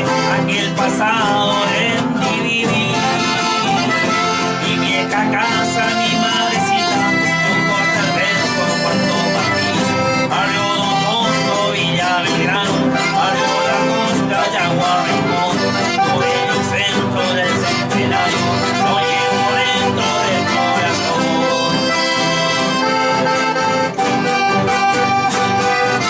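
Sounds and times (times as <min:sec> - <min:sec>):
accordion folk tune: 0:00.0 - 0:26.0.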